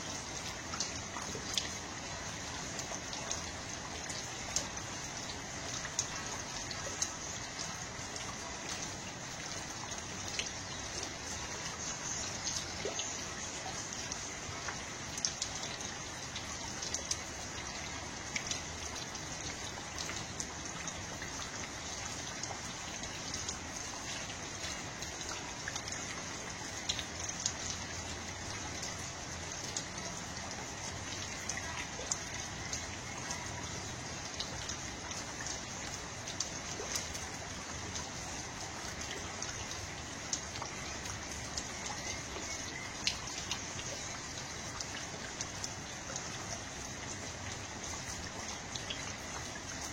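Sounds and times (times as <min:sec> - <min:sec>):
steady water: 0:00.0 - 0:49.9.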